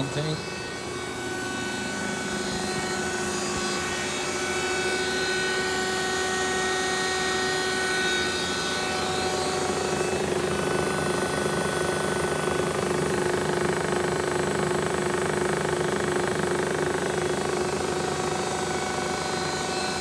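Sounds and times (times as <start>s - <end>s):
grinding machine humming with whine: 0.0s - 20.0s.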